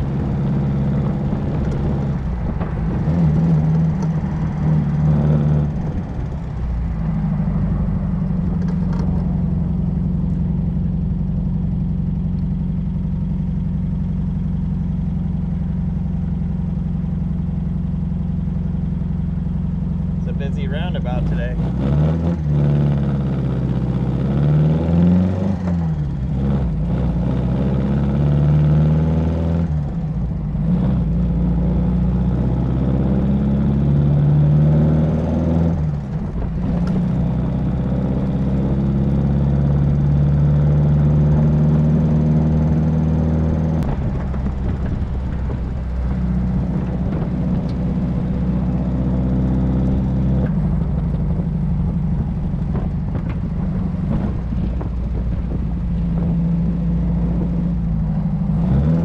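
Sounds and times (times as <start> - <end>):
car engine driving: 0.0 - 59.0.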